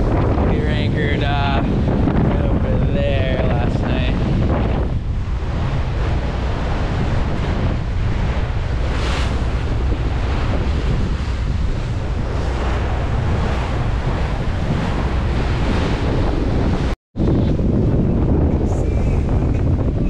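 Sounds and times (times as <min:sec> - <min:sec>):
water rushing past hull: 0:00.0 - 0:20.0
wind buffeting microphone: 0:00.0 - 0:20.0.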